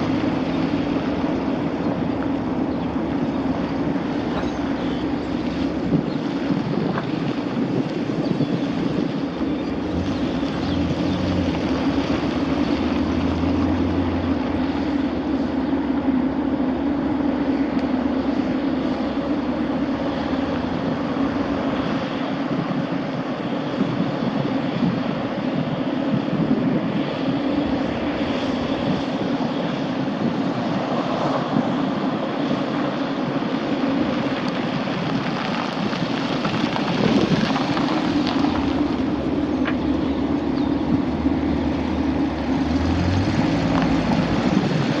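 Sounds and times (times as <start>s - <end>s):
pickup truck engine running: 0.0s - 45.0s.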